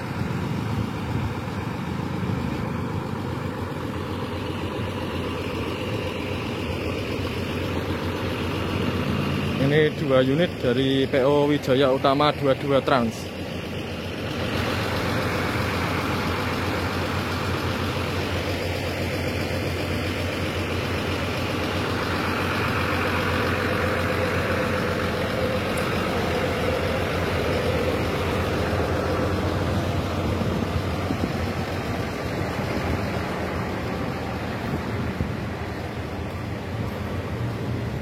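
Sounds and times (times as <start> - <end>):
diesel bus engine idling: 0.0 - 38.0.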